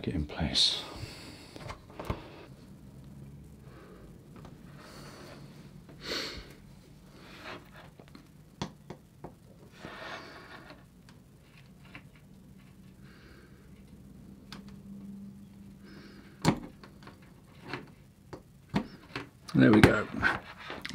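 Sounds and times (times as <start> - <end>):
faint low hum: 0.0 - 20.9.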